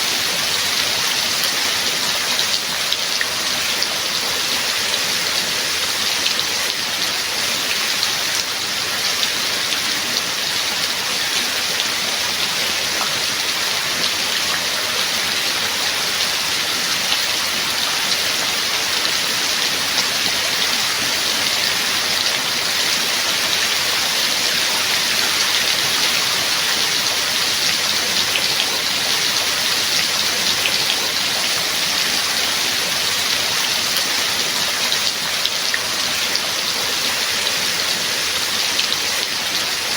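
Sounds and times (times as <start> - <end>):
steady rain with drop taps: 0.0 - 39.9.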